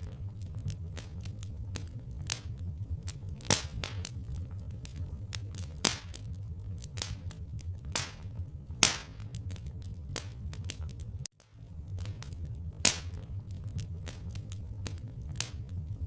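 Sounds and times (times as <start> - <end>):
steady low rumble: 0.0 - 16.0
wood fire crackling and popping: 0.0 - 16.0.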